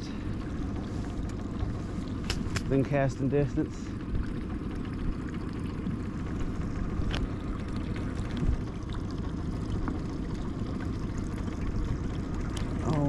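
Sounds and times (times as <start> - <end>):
outboard motor running slowly: 0.0 - 13.0
water splashing against hull: 0.0 - 13.0.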